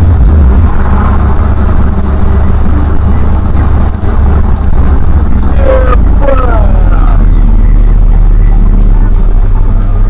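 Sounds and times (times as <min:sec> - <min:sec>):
car driving at highway speed: 0:00.0 - 0:10.0.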